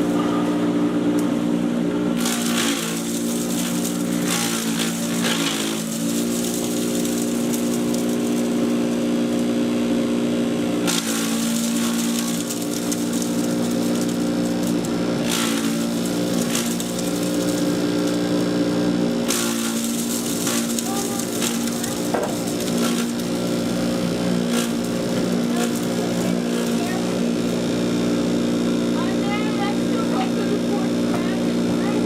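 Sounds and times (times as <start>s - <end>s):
chipper shredder motor hum: 0.0s - 32.0s
harsh shredding bursts: 2.1s - 32.0s.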